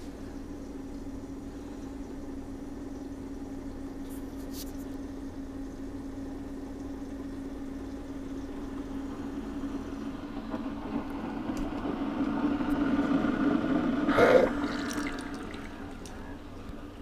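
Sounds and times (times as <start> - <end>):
coffee maker humming: 0.0 - 17.0.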